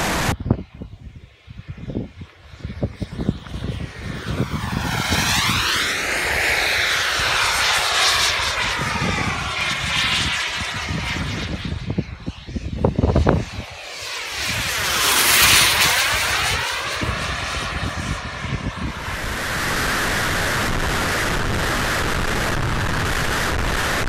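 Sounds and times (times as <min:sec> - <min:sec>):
model jet turbine whining: 0:00.0 - 0:24.0.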